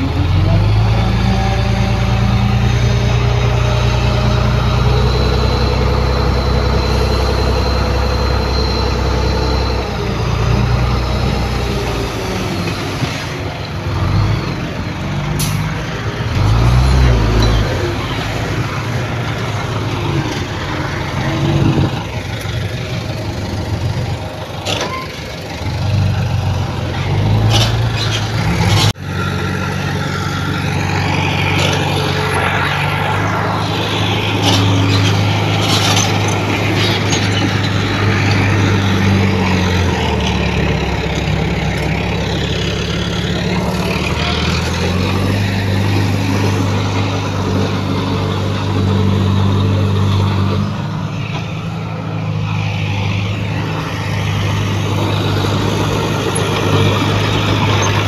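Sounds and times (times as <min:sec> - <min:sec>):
heavy diesel engines: 0:00.0 - 0:58.0.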